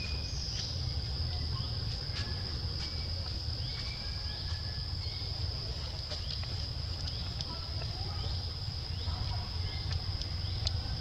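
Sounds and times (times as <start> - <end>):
faint chirps and clicks: 0.0 - 11.0
insects droning: 0.0 - 11.0.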